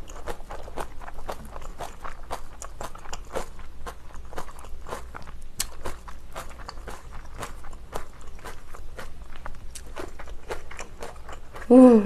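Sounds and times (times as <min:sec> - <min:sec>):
wet crunchy chewing: 0:00.0 - 0:11.7.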